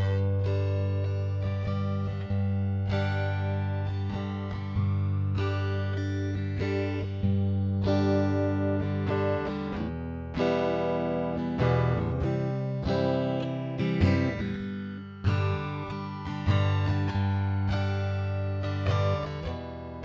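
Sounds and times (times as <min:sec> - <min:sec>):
electric guitar chords with flanger: 0:00.0 - 0:20.0.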